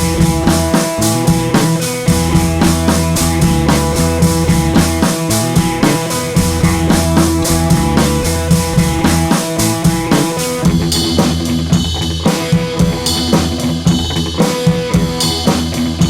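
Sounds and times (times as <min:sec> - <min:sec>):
bass and guitar: 0:00.0 - 0:16.0
drum kit beat: 0:00.0 - 0:16.0.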